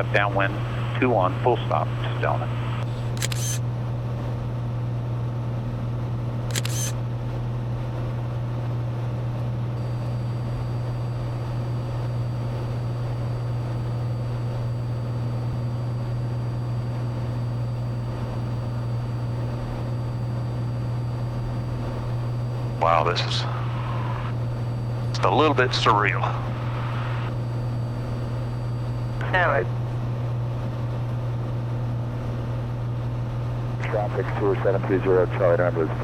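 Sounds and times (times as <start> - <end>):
airplane engine droning: 0.0 - 36.0.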